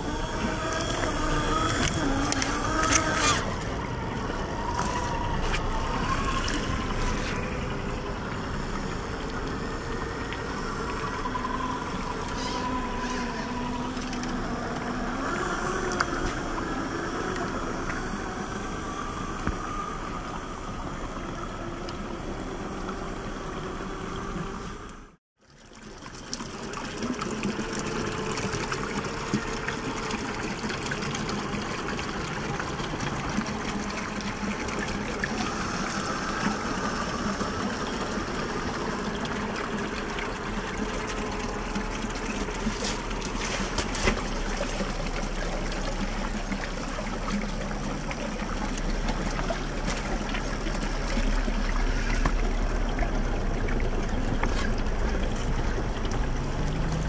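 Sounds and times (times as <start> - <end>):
stream water running over rock: 0.0 - 18.6, 25.5 - 57.0.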